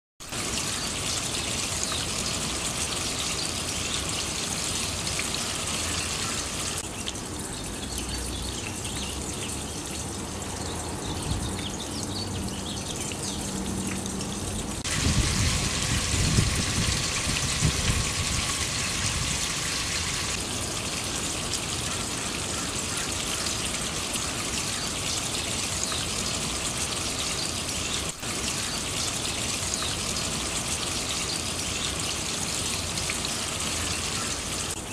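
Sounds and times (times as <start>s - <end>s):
water trickling down rain chain: 0.2s - 34.9s.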